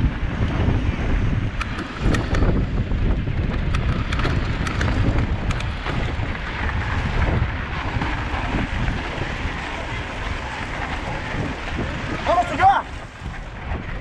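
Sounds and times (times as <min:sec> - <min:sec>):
tyre and trail noise: 0:00.0 - 0:14.0
wind buffeting microphone: 0:00.0 - 0:14.0
bike clicks and rattles: 0:00.3 - 0:12.2.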